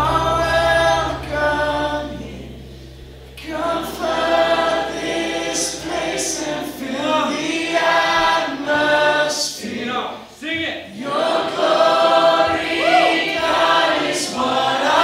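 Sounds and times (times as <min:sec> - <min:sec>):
crowd singing a worship song: 0:00.0 - 0:15.0.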